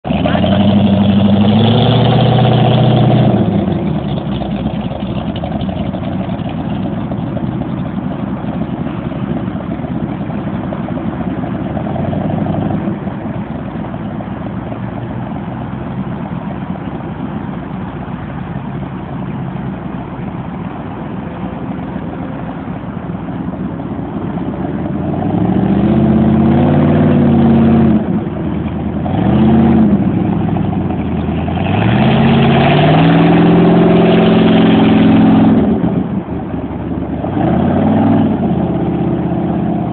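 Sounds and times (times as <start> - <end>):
boat engine revving: 0.0 - 39.9
boat engine rumble: 0.0 - 39.9
water noise: 0.0 - 39.9.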